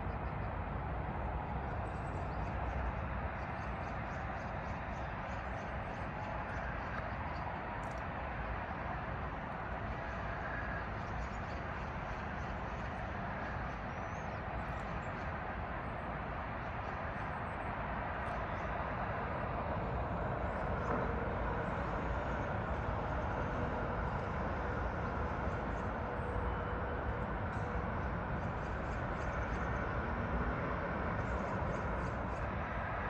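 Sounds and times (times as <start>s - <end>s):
city traffic hum: 0.0s - 33.0s
faint steady tone: 0.0s - 33.0s.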